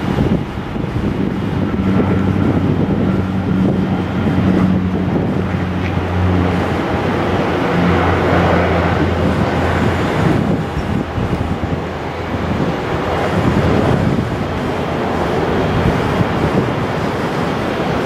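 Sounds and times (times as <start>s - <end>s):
engine and air rush: 0.0s - 18.0s
propeller aircraft drone: 0.0s - 18.0s.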